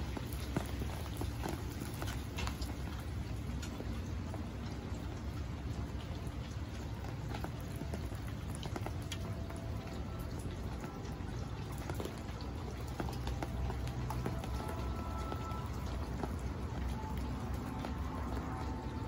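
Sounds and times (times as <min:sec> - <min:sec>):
low steady rumble: 0:00.0 - 0:19.0
rain pattering on water: 0:00.0 - 0:19.0.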